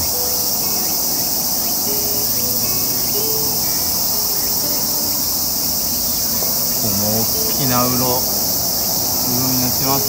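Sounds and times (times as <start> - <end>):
cicadas buzzing: 0.0 - 10.0.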